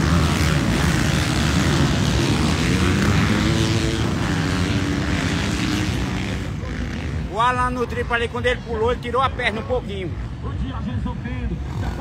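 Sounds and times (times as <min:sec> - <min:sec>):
dirt bike engines racing: 0:00.0 - 0:12.0.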